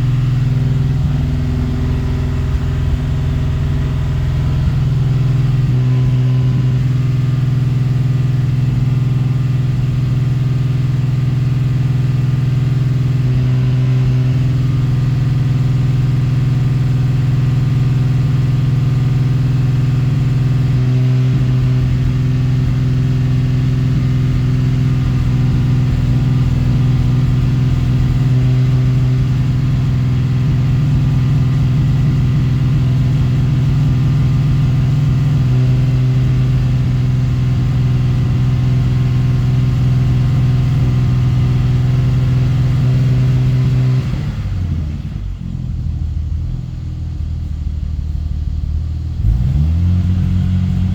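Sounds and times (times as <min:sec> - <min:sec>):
car engine running: 0:00.0 - 0:50.9.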